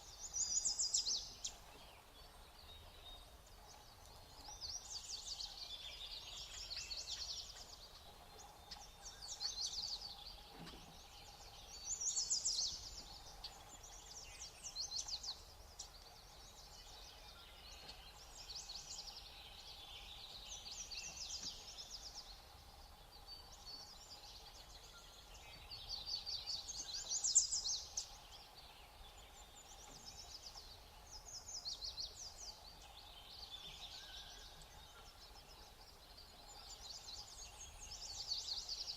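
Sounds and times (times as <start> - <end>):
songbirds trilling and chattering: 0.0 - 38.9.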